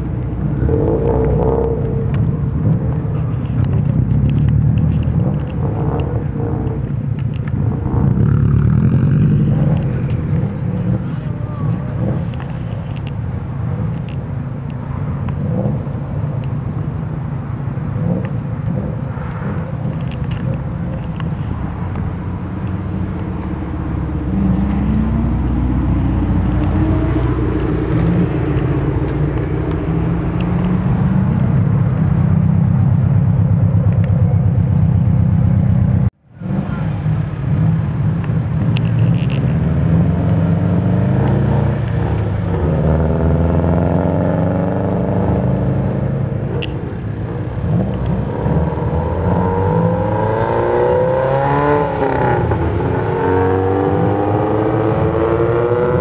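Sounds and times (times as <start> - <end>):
car engines pulling away: 0.0 - 56.0.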